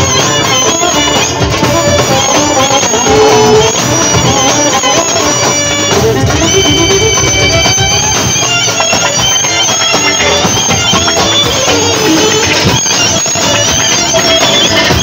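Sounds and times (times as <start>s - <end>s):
clarinet melody: 0.0s - 15.0s
drum beat: 0.0s - 15.0s.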